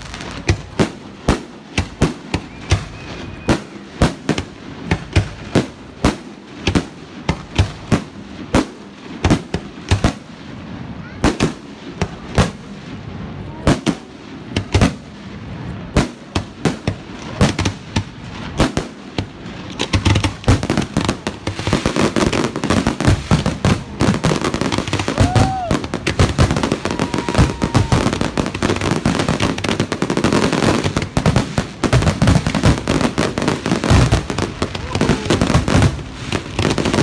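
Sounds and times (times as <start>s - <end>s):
fireworks bangs: 0.0s - 37.0s
fireworks crackling: 0.0s - 37.0s.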